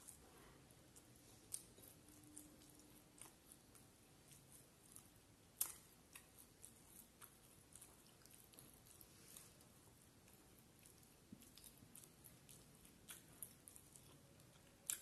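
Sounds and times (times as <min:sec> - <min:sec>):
chewing with mouth closed: 0:00.0 - 0:15.0.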